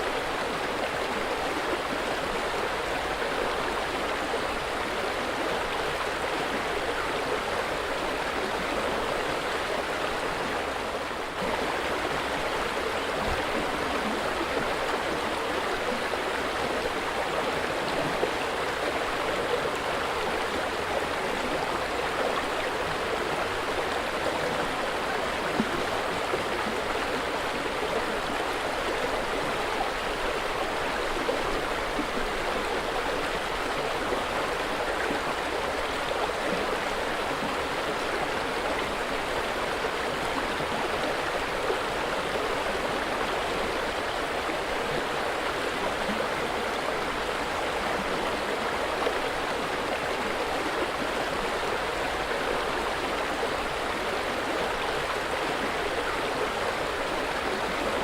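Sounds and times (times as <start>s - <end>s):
river water flowing and babbling: 0.0s - 58.0s.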